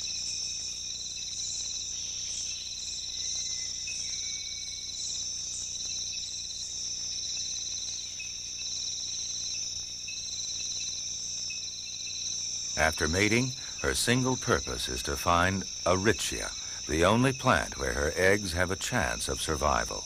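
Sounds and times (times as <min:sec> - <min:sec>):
high-pitched insect drone: 0:00.0 - 0:20.0
pulsing insect trill: 0:00.0 - 0:20.0.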